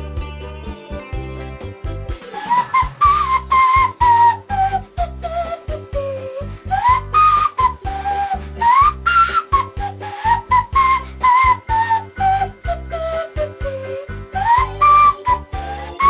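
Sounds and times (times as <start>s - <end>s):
keyboard accompaniment with bass: 0.0s - 16.0s
steady drum beat: 2.2s - 16.0s
whistle-like wind instrument melody: 2.2s - 16.0s.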